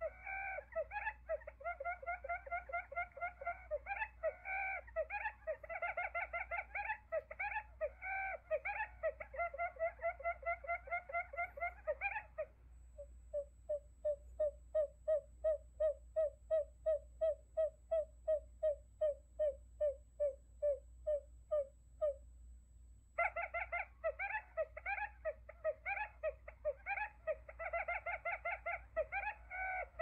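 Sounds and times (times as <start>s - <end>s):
quail decoy calls: 0.0s - 22.2s, 23.2s - 30.0s.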